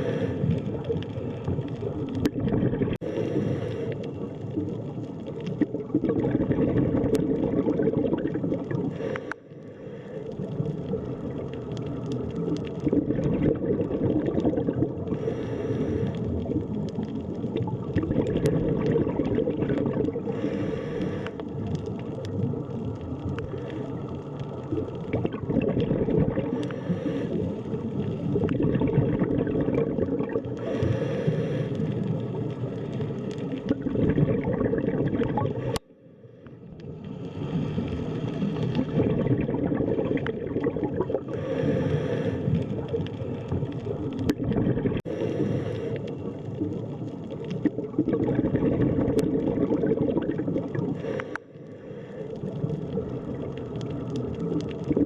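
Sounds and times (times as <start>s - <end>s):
underwater water rumble and bubbling: 0.0s - 55.0s.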